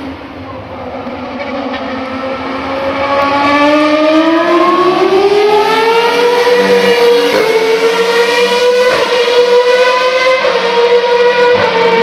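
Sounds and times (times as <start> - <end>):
racing car engine accelerating: 0.7 - 12.0.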